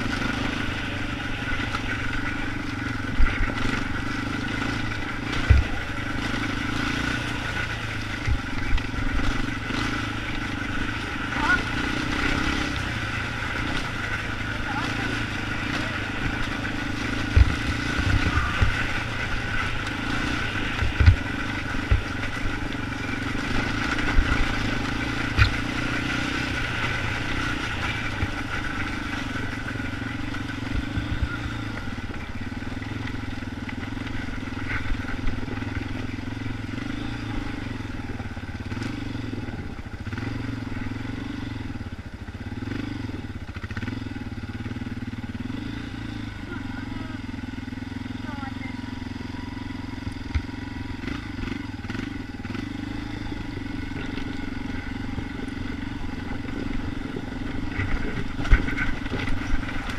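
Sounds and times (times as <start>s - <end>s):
atv engine running: 0.0s - 59.9s
knocks and rattles over rough ground: 0.0s - 59.9s.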